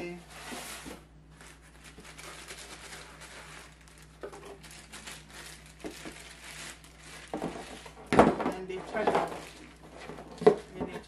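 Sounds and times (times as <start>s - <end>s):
plastic wrapping crinkling: 0.8s - 11.0s.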